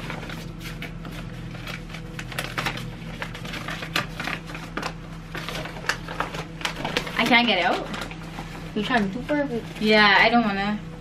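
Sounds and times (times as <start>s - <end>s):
gift wrapping rustling: 0.0s - 10.1s.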